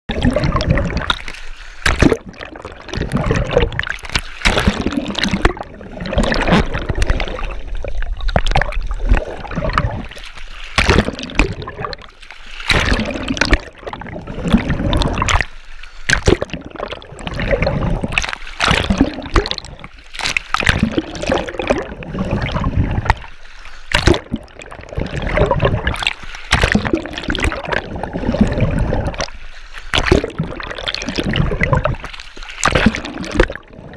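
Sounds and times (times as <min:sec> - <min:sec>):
splashing surge of bubbles: 0:00.1 - 0:15.5, 0:16.1 - 0:23.3, 0:23.9 - 0:29.3, 0:29.9 - 0:33.9
underwater water sloshing and gurgling: 0:00.1 - 0:33.9.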